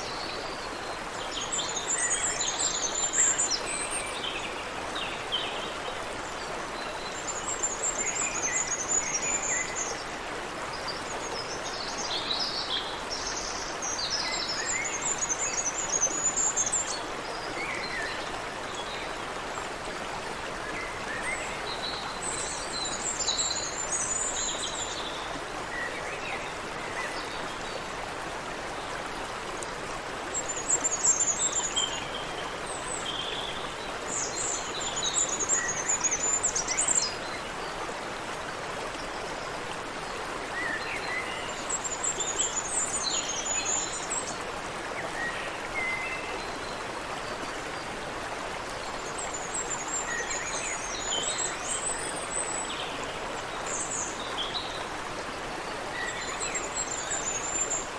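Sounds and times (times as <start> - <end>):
stream running: 0.0 - 57.9.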